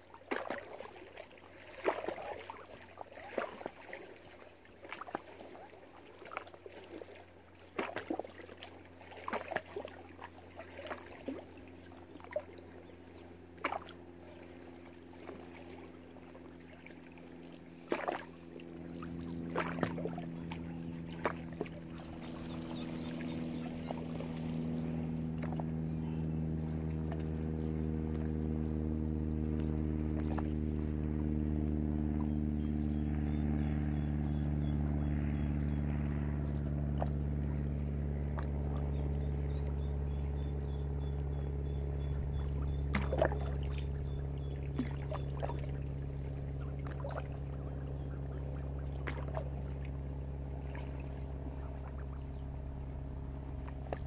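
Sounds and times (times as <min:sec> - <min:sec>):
motorboat engine droning: 0:00.0 - 0:54.0.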